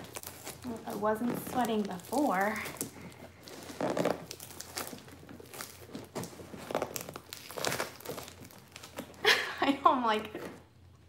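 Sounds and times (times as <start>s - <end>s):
plastic tape crinkling: 0.0s - 10.7s.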